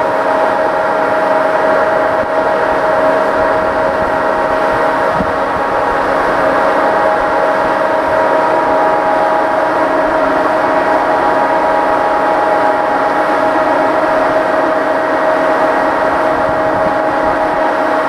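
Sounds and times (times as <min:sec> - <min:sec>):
locomotive cooling blower: 0:00.0 - 0:18.0.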